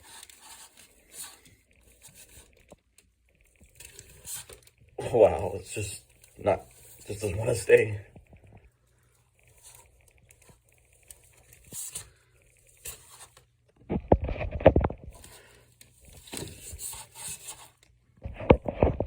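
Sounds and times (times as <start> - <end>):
scraping and rustling: 0.0 - 19.0.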